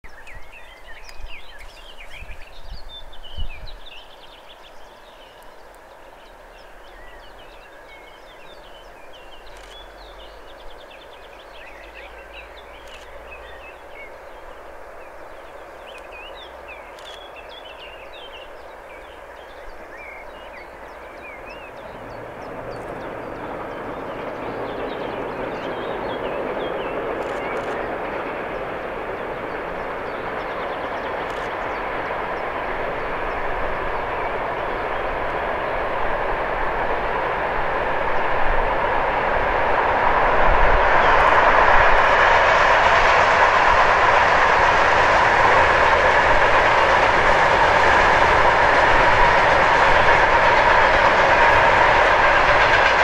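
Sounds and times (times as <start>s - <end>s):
birds chirping: 0.1s - 40.0s, 40.6s - 53.0s
diesel freight train rumbling: 0.1s - 53.0s.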